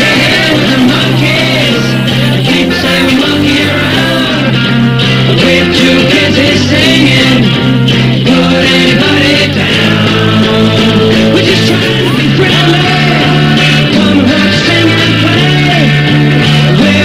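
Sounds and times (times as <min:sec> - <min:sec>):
loud rock music with guitar: 0:00.0 - 0:17.0.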